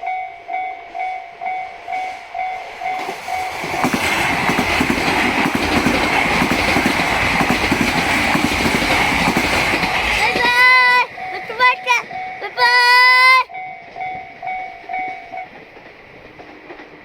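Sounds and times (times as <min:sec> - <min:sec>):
level-crossing alarm ringing: 0:00.0 - 0:15.7
train wheels clattering on rail joints: 0:01.9 - 0:12.5, 0:13.8 - 0:17.0.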